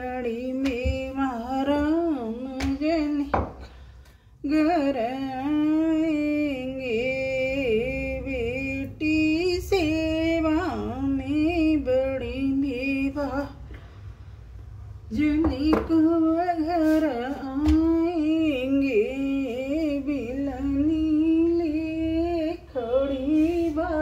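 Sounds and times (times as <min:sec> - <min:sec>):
woman singing folk song: 0:00.0 - 0:03.8, 0:04.4 - 0:13.6, 0:15.1 - 0:24.0.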